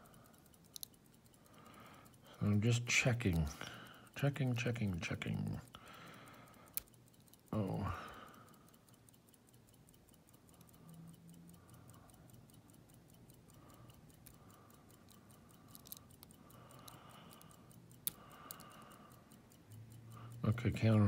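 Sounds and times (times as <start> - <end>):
quick even ticking: 0.0 - 21.0.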